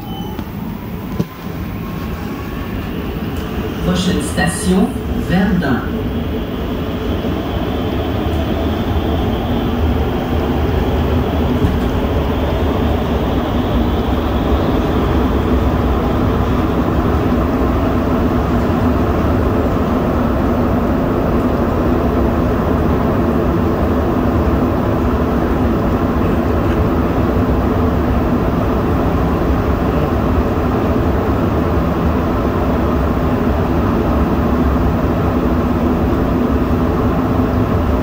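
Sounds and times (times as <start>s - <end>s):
metro train running rumble: 0.0s - 38.0s
train drive hum: 0.0s - 38.0s.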